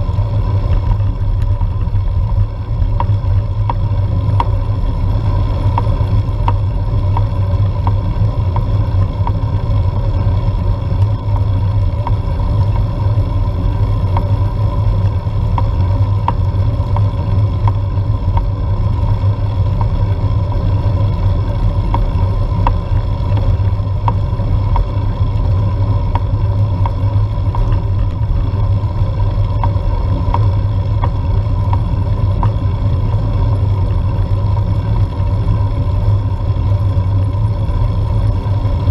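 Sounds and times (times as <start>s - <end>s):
wind and road rumble: 0.0s - 38.9s
light ticks: 0.2s - 4.6s, 5.3s - 38.9s.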